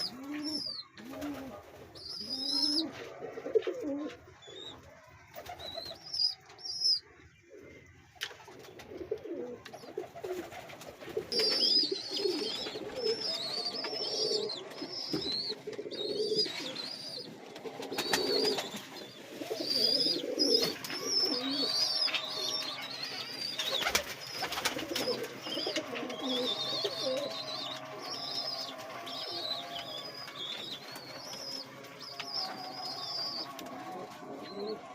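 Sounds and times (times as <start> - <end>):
low pigeon cooing: 0.0 - 4.8, 8.8 - 34.9
pigeon chicks peeping: 0.0 - 34.9.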